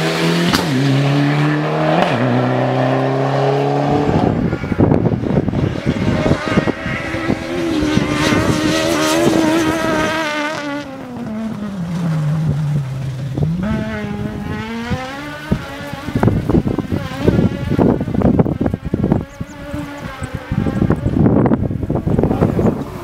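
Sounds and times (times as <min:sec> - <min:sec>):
race car engine: 0:00.0 - 0:23.0.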